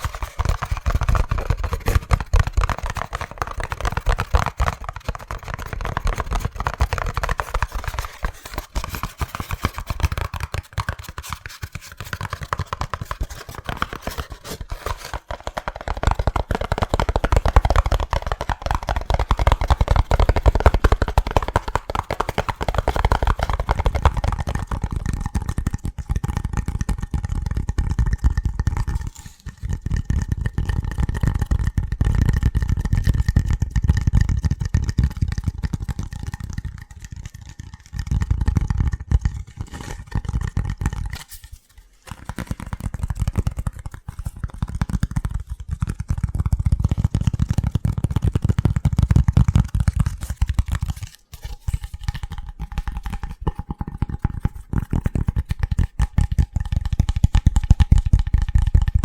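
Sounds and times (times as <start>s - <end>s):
rapid finger tapping: 0.0s - 41.4s, 42.1s - 59.0s.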